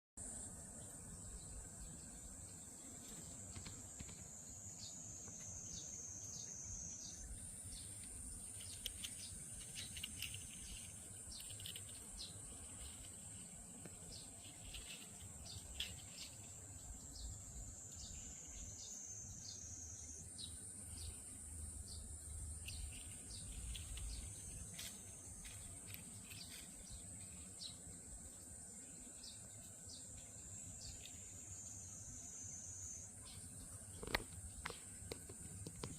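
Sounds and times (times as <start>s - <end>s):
cicadas droning: 0.2s - 35.9s.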